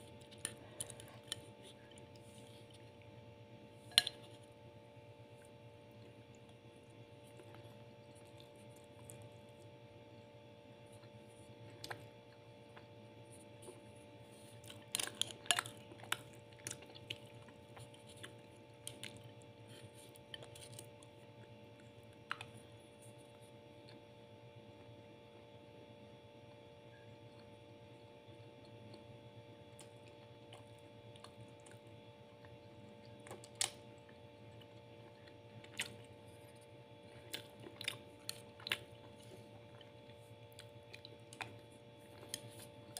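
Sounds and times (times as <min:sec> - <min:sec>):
steady hum: 0:00.0 - 0:42.9.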